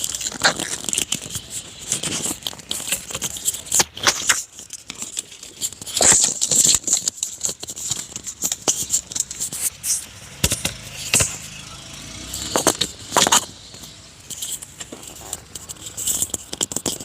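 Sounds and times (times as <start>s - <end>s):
handling clicks and scrapes: 0.0s - 17.0s.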